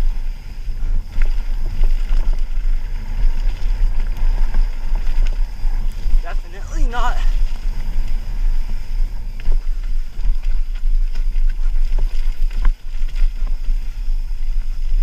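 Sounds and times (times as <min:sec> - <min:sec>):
bike rattling over rocks: 0:00.0 - 0:15.0
tyre noise on dirt trail: 0:00.0 - 0:15.0
wind rumble on microphone: 0:00.0 - 0:15.0.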